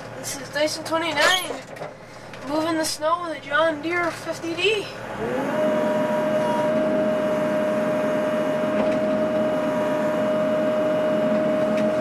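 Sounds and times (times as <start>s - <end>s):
excavator engine running: 0.0s - 12.0s
steady whine: 0.0s - 12.0s.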